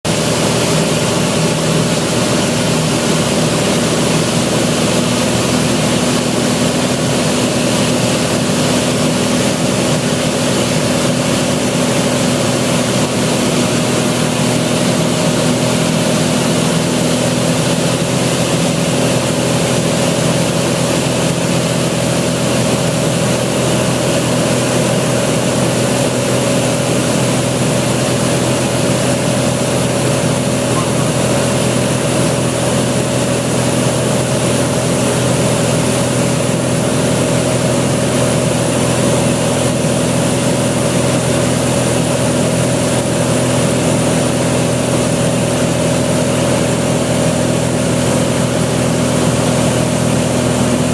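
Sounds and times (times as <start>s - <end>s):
propeller plane engine drone: 0.0s - 50.9s.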